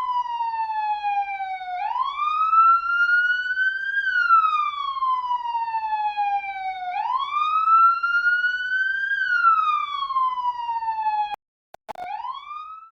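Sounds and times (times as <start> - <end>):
police siren wailing: 0.0 - 12.9.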